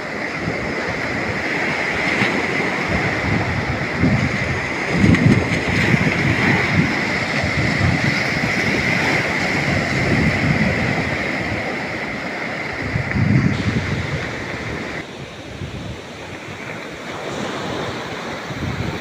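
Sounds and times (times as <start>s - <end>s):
sea waves washing onto beach: 0.0s - 19.0s
wind gusting on microphone: 0.0s - 19.0s.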